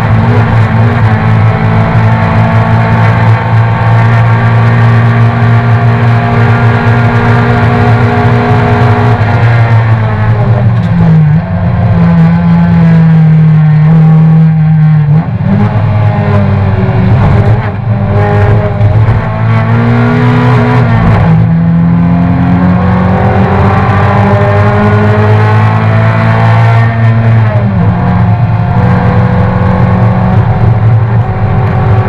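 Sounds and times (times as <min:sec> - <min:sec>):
race car engine running hard: 0:00.0 - 0:32.0.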